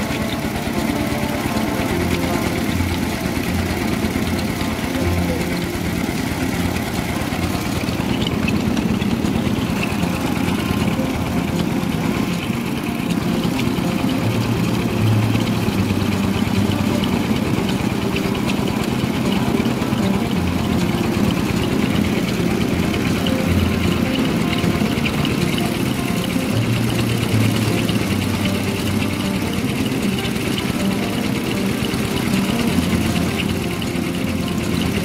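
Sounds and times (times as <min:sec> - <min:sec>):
milling machine engine drone: 0:00.0 - 0:35.0.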